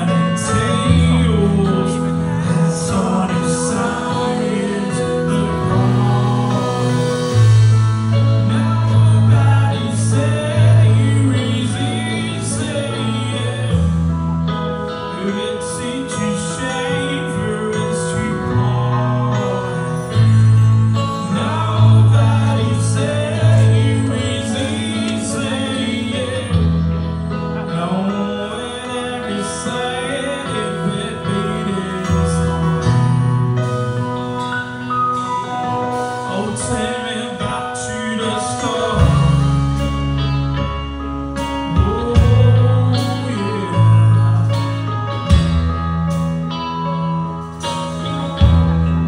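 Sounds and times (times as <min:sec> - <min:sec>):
deep bass notes: 0:00.0 - 0:49.0
electric guitar: 0:00.0 - 0:49.0
keyboard: 0:00.0 - 0:49.0
person singing: 0:00.0 - 0:49.0.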